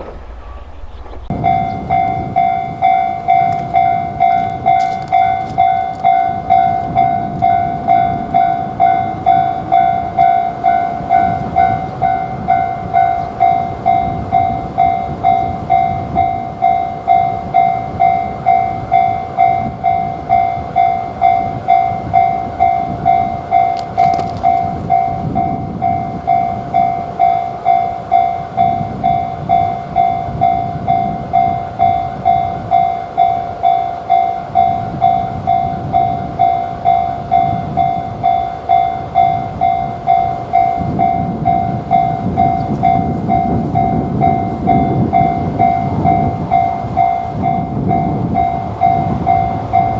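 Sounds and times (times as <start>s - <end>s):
level-crossing alarm ringing: 0.0s - 49.9s
train rumbling past: 0.0s - 49.9s.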